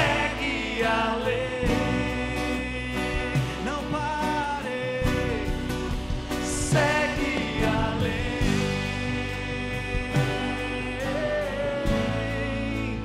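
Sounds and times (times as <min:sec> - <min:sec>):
person singing: 0:00.0 - 0:05.7, 0:06.3 - 0:13.0
band playing: 0:00.0 - 0:13.0.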